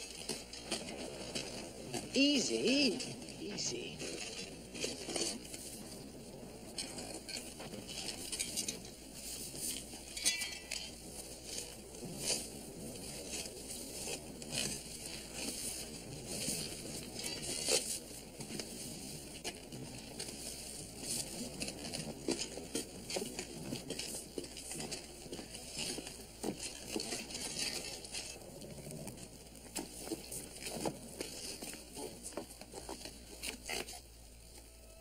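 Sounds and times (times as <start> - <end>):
tools scraping and striking earth: 0.0 - 6.0, 6.6 - 34.1.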